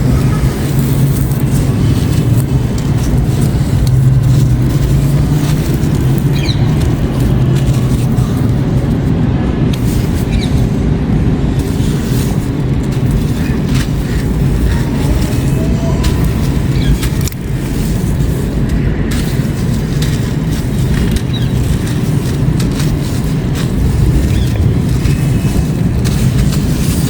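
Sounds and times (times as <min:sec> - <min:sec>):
low engine-like rumble: 0:00.0 - 0:27.0.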